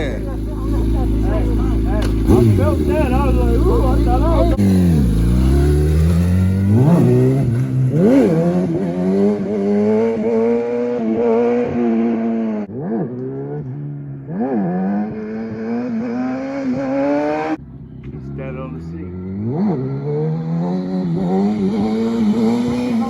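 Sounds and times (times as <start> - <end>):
small engine revving: 0.0 - 23.0.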